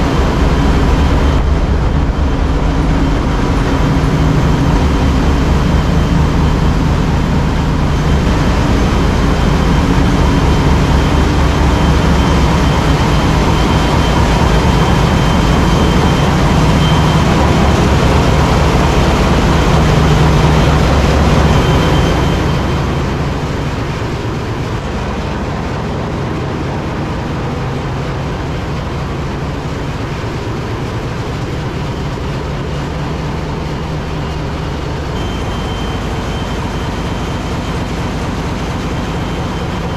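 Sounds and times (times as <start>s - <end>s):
ship engine room machinery drone: 0.0s - 39.9s.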